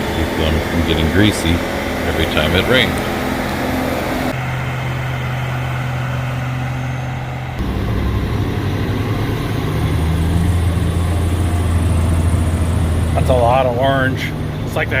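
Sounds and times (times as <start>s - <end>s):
dump truck engine pulling: 0.0s - 15.0s
heavy equipment engines running: 0.0s - 15.0s.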